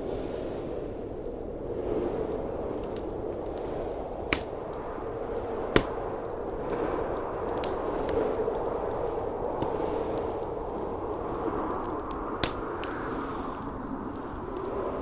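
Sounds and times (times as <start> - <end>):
blizzard wind: 0.0 - 15.0
wood fire crackling and popping: 0.0 - 15.0.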